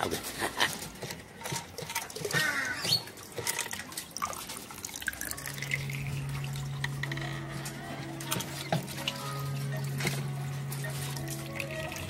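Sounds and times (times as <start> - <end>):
water dripping and trickling: 0.0 - 12.0.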